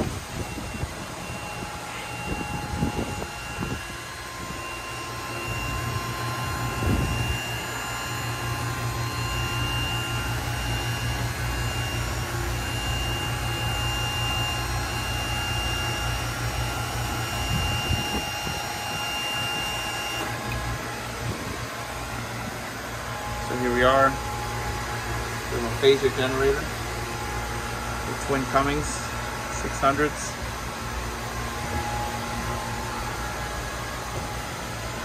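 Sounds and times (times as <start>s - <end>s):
faint high whine: 0.0s - 35.0s
hatch lift motor humming: 0.0s - 35.0s.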